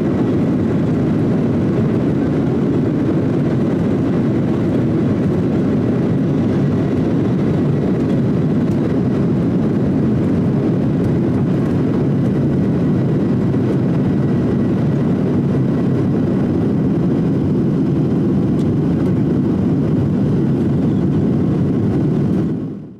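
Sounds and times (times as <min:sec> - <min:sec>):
jet airliner cabin drone: 0:00.0 - 0:22.9.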